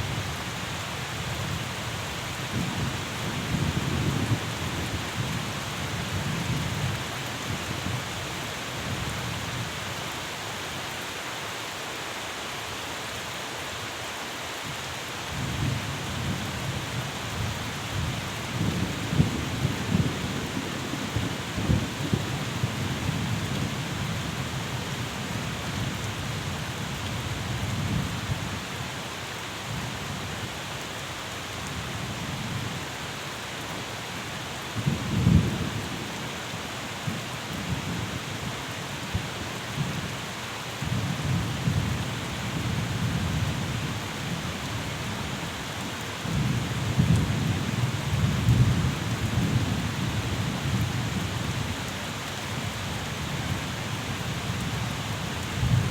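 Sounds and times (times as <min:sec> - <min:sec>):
rain hiss: 0:00.0 - 0:55.9.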